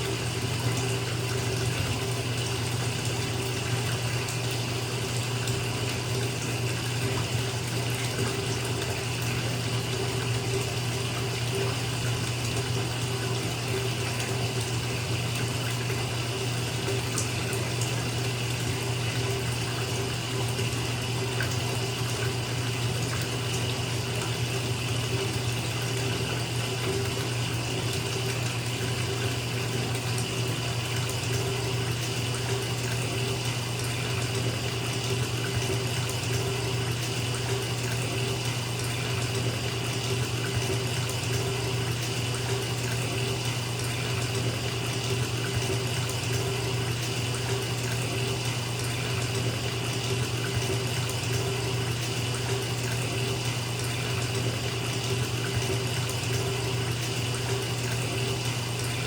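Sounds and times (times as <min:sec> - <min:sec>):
water pouring into bathtub: 0:00.0 - 0:59.0.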